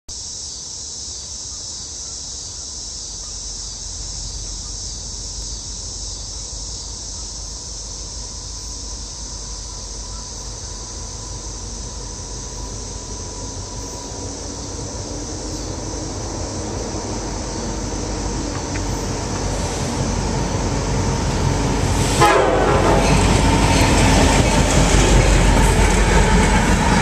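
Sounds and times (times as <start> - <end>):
insects buzzing: 0.1 - 27.0.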